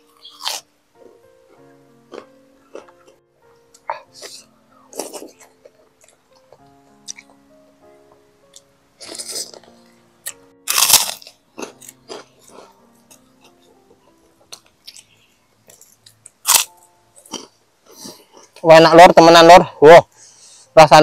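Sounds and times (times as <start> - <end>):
person chewing crunchy food: 0.0 - 3.2, 3.8 - 7.4, 8.5 - 18.7
soft background music: 0.0 - 21.0.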